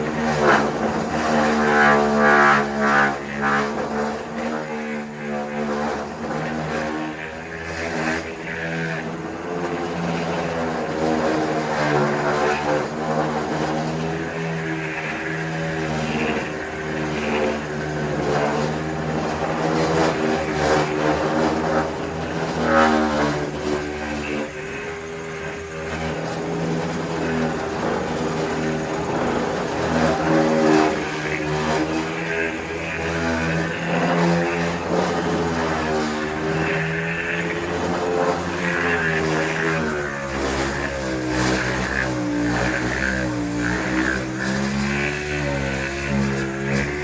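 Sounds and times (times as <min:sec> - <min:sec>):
motor humming: 0:00.0 - 0:47.0.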